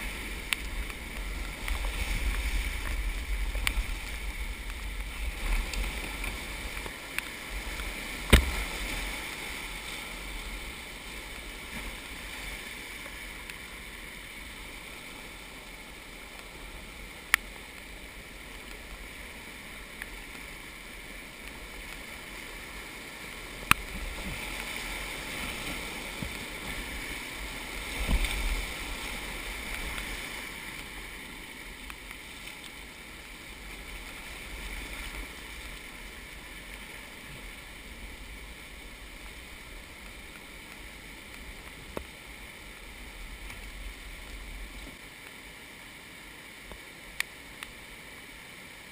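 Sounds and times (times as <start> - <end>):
whitewater rushing and splashing: 0.0 - 48.9.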